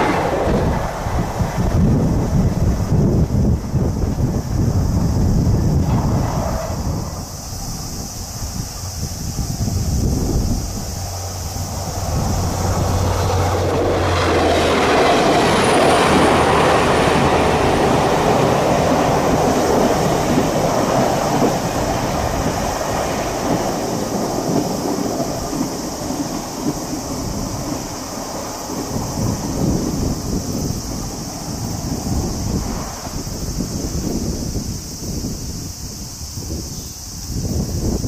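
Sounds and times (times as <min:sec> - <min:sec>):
train rumbling over steel bridge: 0:00.0 - 0:38.0.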